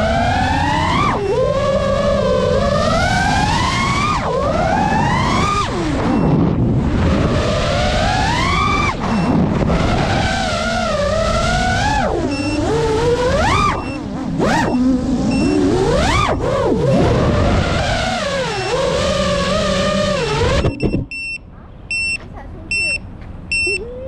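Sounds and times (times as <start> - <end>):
drone motors whining: 0.0 - 21.4.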